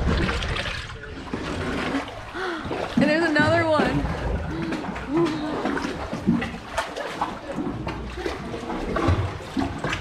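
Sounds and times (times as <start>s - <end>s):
paddling splashes: 0.0s - 10.0s
water lapping around kayak: 0.0s - 10.0s.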